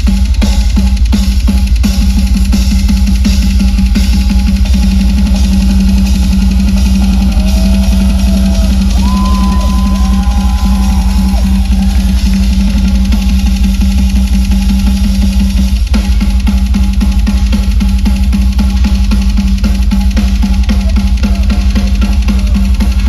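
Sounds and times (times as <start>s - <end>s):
fast bass drum strokes: 0.0s - 23.0s
live metal band playing: 3.2s - 23.0s.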